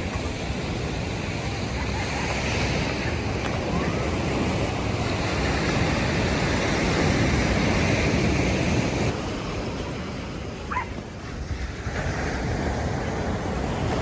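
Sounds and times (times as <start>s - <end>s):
surf washing on sandy beach: 0.0s - 14.0s
wind buffeting microphone: 0.0s - 14.0s.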